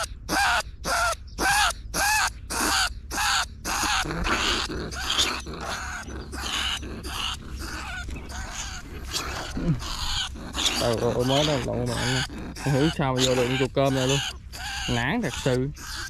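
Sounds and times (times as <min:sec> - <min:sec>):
rat screaming: 0:00.0 - 0:16.0.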